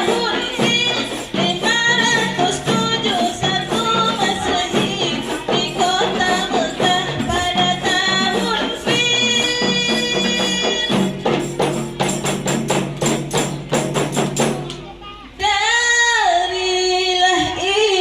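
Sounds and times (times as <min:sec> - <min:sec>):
frame drums playing: 0:00.0 - 0:15.4.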